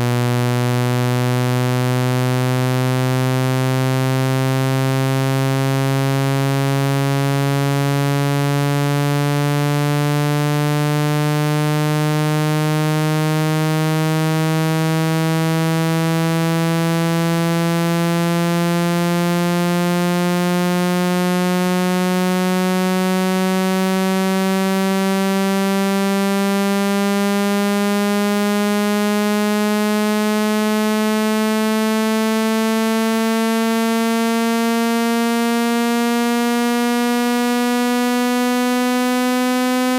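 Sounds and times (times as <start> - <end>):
buzzy low tone rising in pitch: 0.0 - 39.9.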